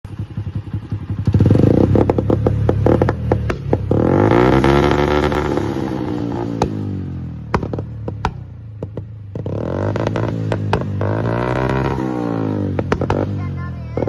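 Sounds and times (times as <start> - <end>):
exhaust popping and backfiring: 0.0 - 14.0
motorcycle engine revving: 0.1 - 14.0.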